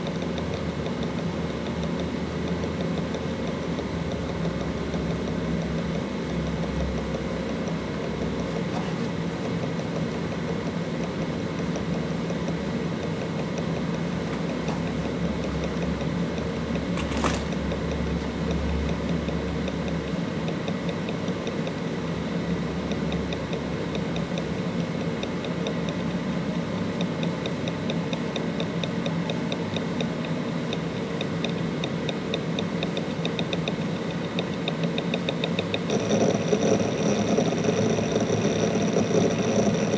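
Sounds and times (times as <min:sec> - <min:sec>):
hard drive heads ticking: 0:00.0 - 0:39.9
hard drive humming: 0:00.0 - 0:39.9
sharp hard drive click: 0:00.0 - 0:39.9.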